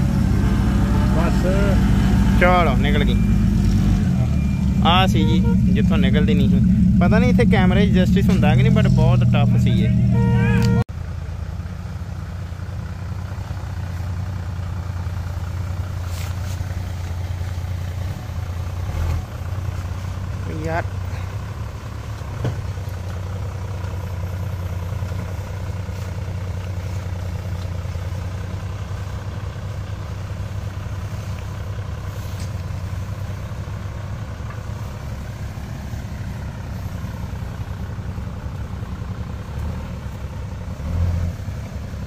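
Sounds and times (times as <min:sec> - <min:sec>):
engine running at low revs: 0:00.0 - 0:42.0.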